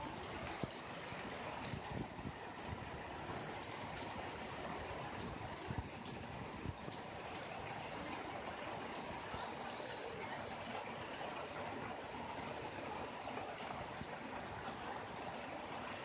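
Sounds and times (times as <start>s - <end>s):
rain falling: 0.0s - 16.0s
water running and trickling: 0.0s - 16.0s.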